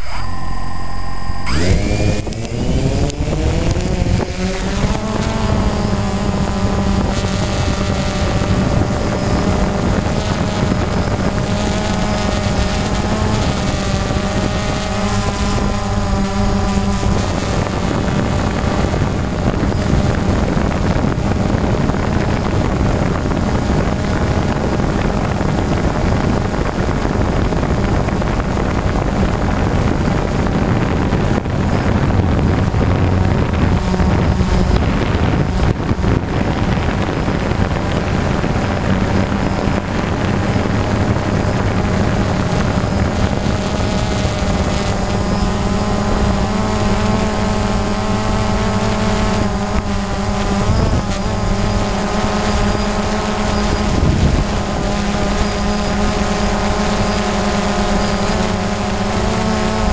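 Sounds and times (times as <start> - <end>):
drone motors whining and humming: 0.0 - 59.9
wind rushing over microphone: 0.0 - 59.9.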